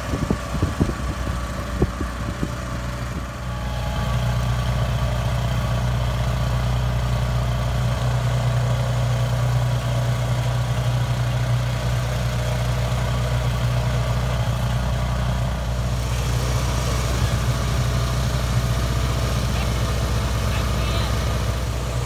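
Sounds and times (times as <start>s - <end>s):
snowplow mechanical drone: 0.0s - 22.0s.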